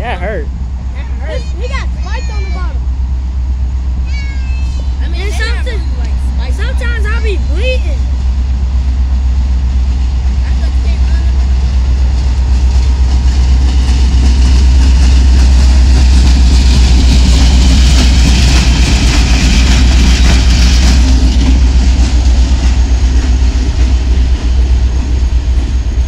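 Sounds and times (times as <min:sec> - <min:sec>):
diesel locomotive engine rumble: 0:00.0 - 0:26.0
train wheels clattering on rails: 0:04.1 - 0:26.0.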